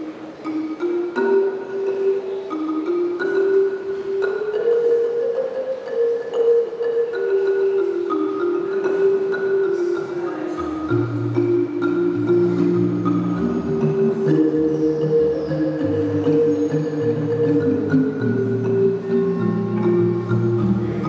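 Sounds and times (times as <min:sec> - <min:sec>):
marimba melody: 0:00.0 - 0:21.0.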